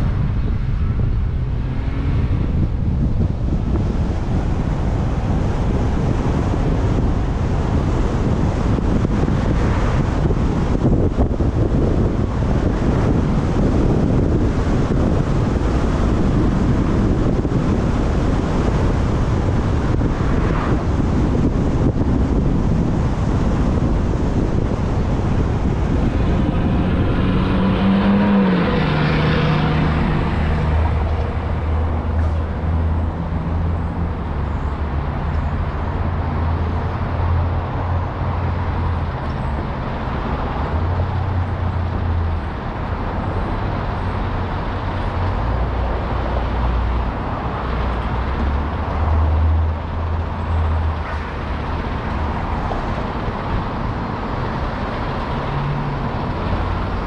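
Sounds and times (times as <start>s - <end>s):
low engine drone: 0.0s - 57.0s
road and wind noise: 0.0s - 57.0s.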